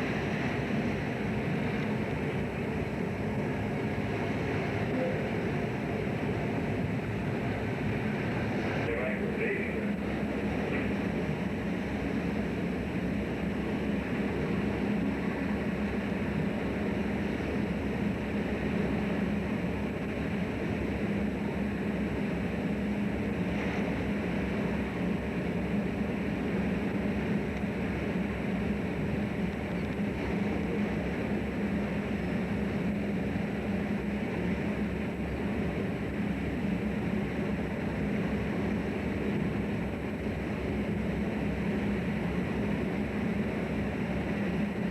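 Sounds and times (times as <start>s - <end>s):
boat engine drone: 0.0s - 44.9s.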